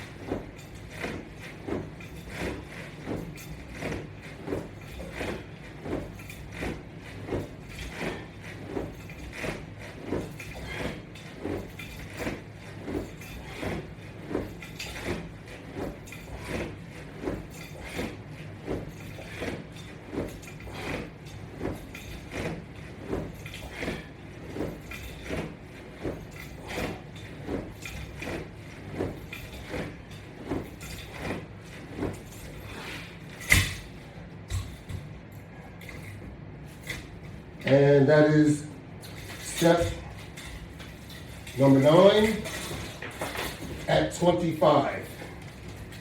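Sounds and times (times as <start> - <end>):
rhythmic swishing of straps: 0.0 - 46.0
steady low hum: 0.0 - 46.0.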